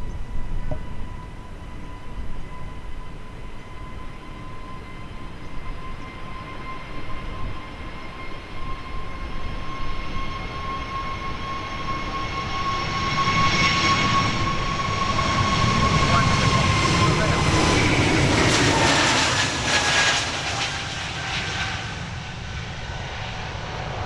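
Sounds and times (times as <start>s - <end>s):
jet engines whining: 0.1s - 24.0s.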